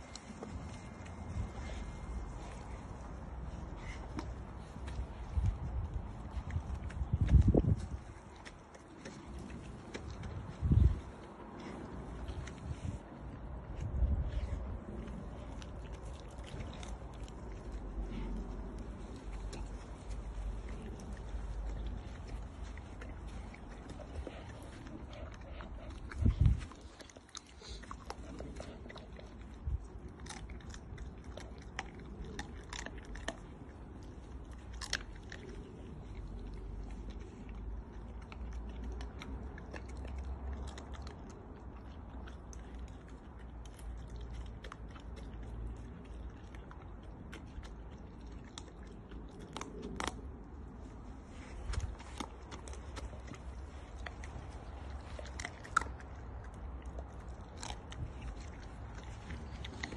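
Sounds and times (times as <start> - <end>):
dog chewing raw chicken: 0.0 - 59.9.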